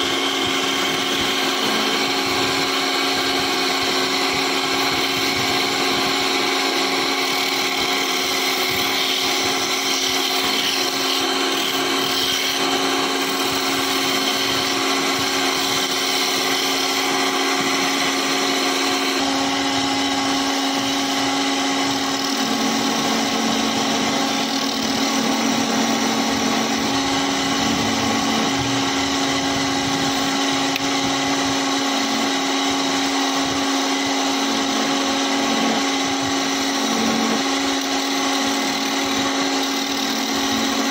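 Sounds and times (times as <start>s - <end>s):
lathe motor whine: 0.0s - 40.9s.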